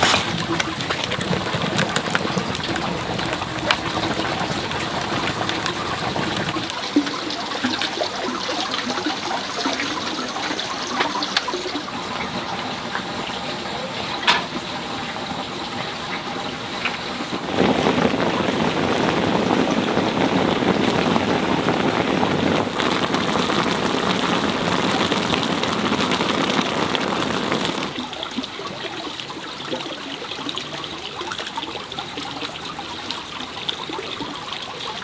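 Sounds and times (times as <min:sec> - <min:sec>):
running water splashing: 0:00.0 - 0:35.0.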